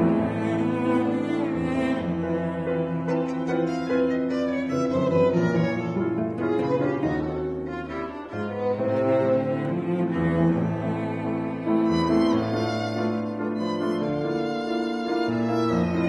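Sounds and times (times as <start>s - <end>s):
piano: 0.0s - 16.0s
violin and cello bowed strings: 0.0s - 16.0s.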